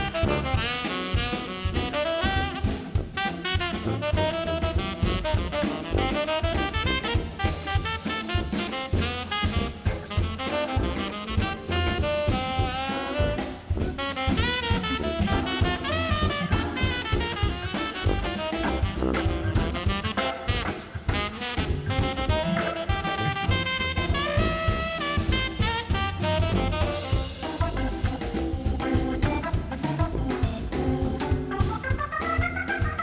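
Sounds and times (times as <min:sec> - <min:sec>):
swinging drum kit: 0:00.0 - 0:33.0
tenor saxophone solo: 0:00.0 - 0:33.0.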